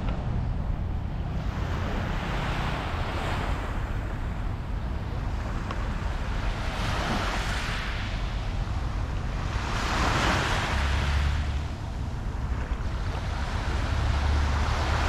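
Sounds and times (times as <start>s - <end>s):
wind rumbling on microphone: 0.0s - 15.0s
small waves washing onto beach: 0.6s - 15.0s.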